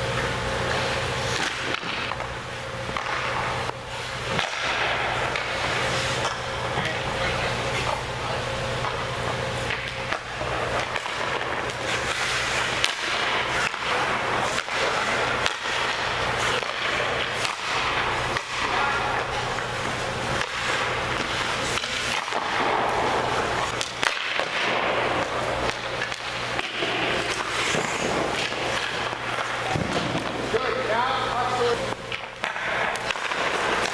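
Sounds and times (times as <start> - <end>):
steady low hum: 0.0 - 33.9
pucks clacking on sticks: 0.1 - 8.0, 8.8 - 33.9
skate blades scraping on ice: 0.1 - 8.0, 9.6 - 33.9.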